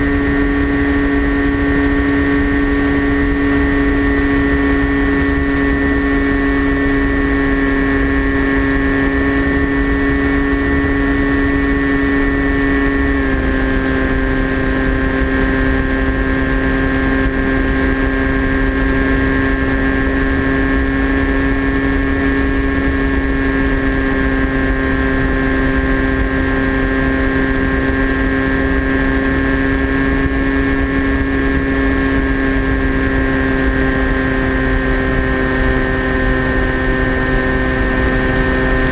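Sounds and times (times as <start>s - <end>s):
electric motor and propeller whine: 0.0s - 38.9s
wind rumble on microphone: 0.0s - 38.9s.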